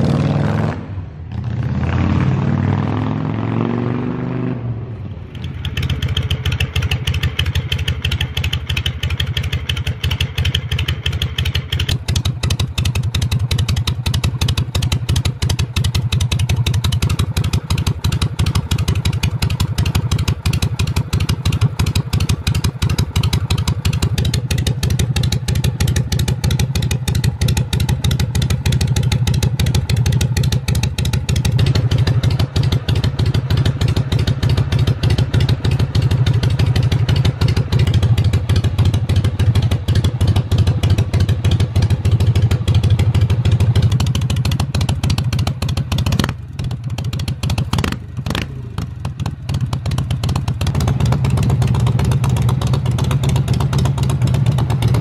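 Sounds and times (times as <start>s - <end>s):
motorcycle engine idling: 5.0s - 55.0s.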